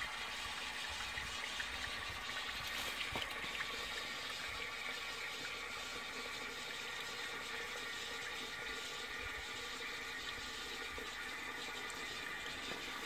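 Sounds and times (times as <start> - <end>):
toilet cistern refilling: 0.0 - 13.0.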